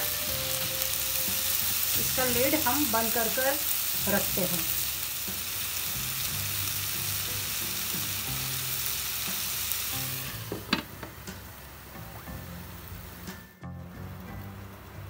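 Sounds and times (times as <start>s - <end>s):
onions sizzling in frying pan: 0.0s - 15.0s.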